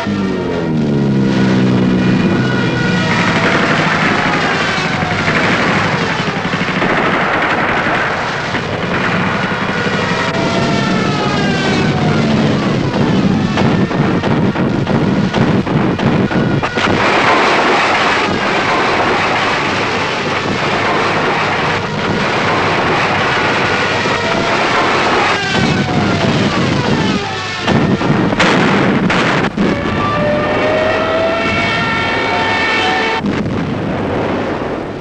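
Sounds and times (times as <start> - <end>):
aircraft engines droning and whining: 0.0 - 35.0
anti-aircraft gunfire clatter: 0.0 - 35.0.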